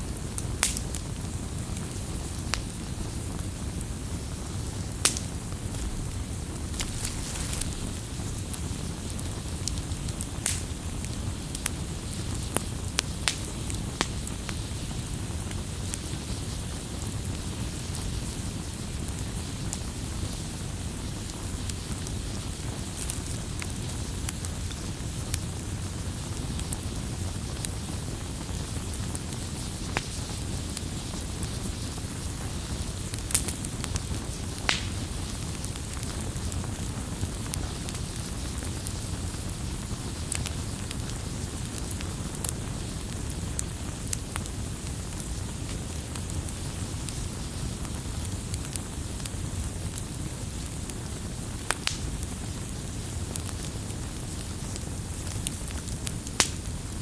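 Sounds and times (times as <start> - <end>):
fire crackles and pops: 0.0 - 57.0
firewood burning: 0.0 - 57.0.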